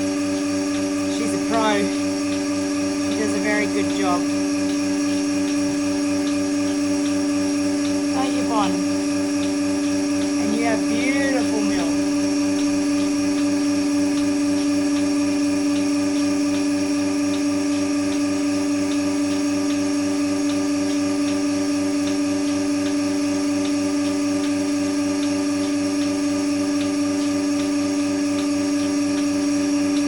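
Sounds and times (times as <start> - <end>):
milking machine pump hum: 0.0 - 30.0
pulsator ticking: 0.0 - 30.0.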